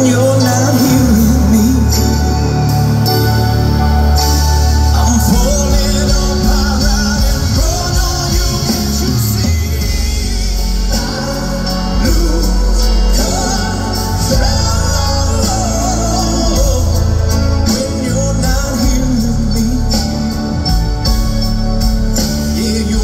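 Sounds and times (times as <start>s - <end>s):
man singing: 0.0s - 23.0s
rock band playing: 0.0s - 23.0s.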